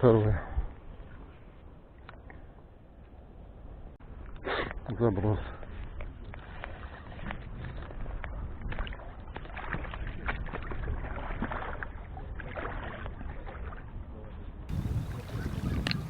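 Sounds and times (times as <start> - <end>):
wind rumbling on microphone: 0.0 - 2.6, 3.4 - 16.0.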